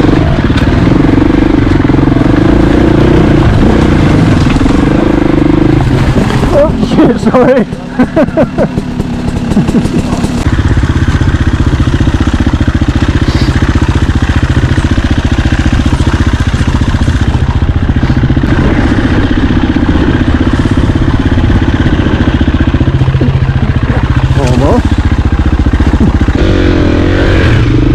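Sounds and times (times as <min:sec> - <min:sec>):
dirt bike engine running: 0:00.0 - 0:27.9.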